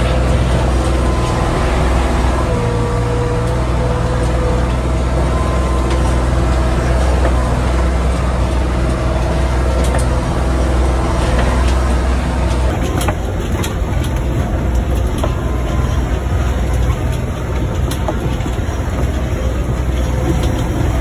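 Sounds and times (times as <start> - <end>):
diesel engine droning: 0.0 - 21.0
high whine: 0.0 - 21.0.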